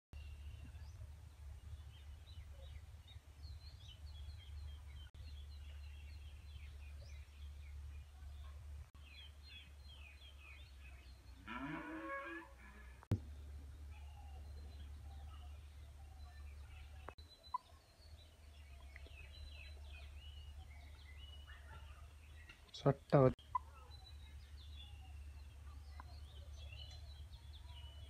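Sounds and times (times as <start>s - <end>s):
small birds chirping: 0.2s - 28.0s.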